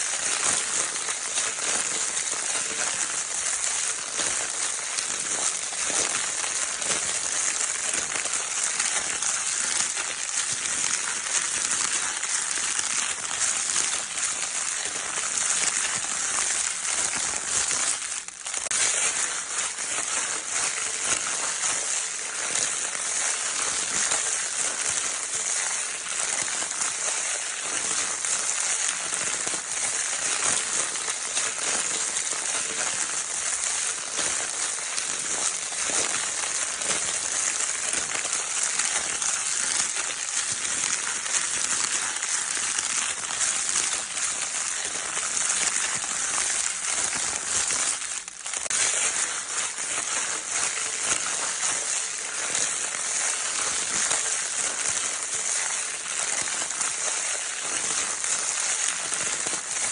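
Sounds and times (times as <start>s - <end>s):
crinkle paper crumpled: 0.0s - 59.9s.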